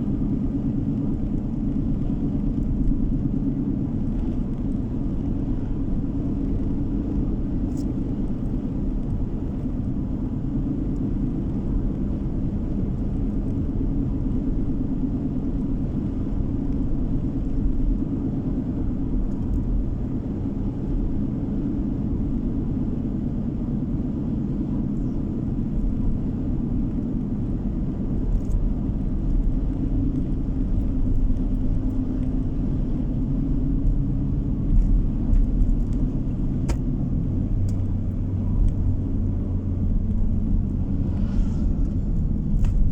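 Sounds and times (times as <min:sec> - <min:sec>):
car driving on road: 0:00.0 - 0:42.9.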